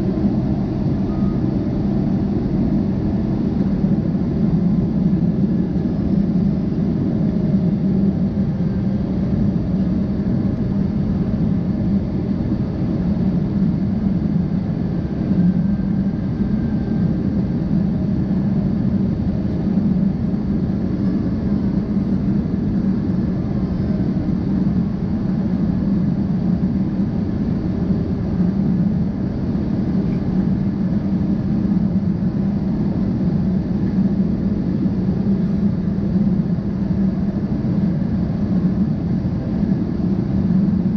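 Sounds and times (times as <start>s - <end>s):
jet airliner cabin rumble: 0.0s - 40.9s.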